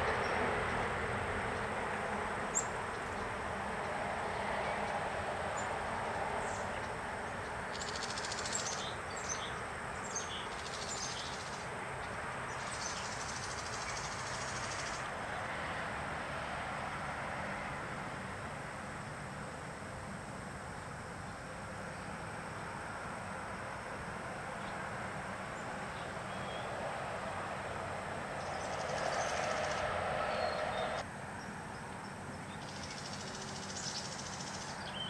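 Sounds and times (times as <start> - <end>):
rushing outdoor background noise: 0.0 - 35.0.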